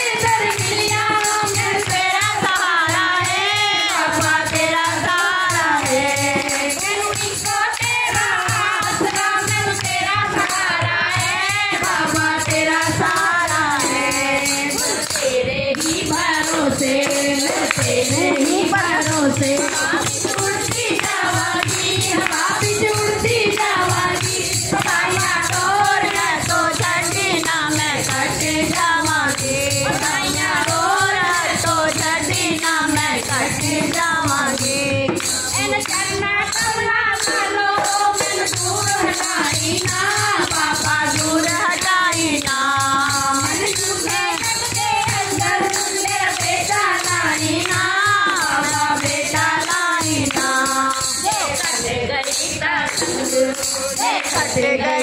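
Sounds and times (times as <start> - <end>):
barrel drum: 0.0 - 54.6
jingling percussion: 0.0 - 55.0
women singing devotional song: 0.0 - 55.0.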